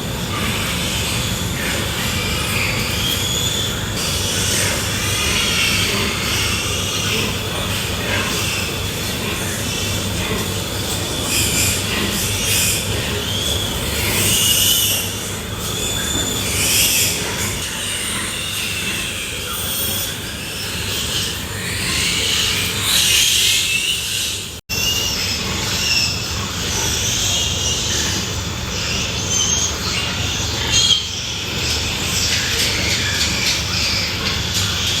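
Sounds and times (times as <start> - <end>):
pigs squealing: 0.0 - 35.0.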